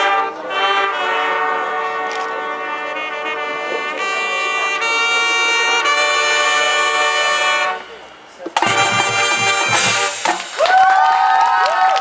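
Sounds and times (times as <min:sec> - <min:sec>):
brass band playing chords: 0:00.0 - 0:10.7.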